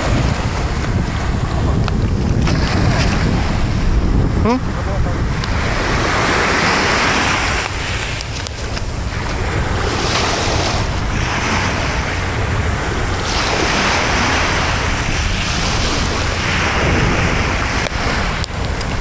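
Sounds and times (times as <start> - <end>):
surf rushing on beach: 0.0 - 19.0
wind buffeting microphone: 0.0 - 19.0.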